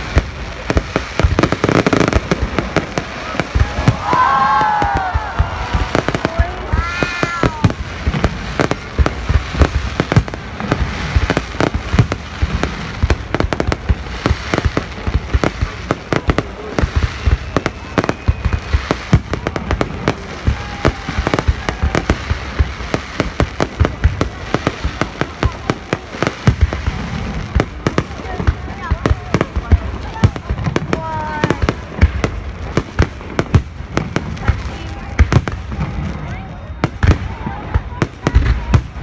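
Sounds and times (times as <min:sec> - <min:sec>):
fireworks booming and crackling: 0:00.0 - 0:39.0.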